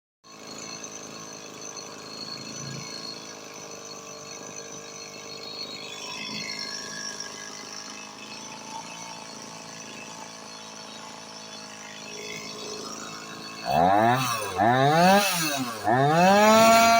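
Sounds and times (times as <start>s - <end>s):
chainsaw engine idling: 0.3s - 16.9s.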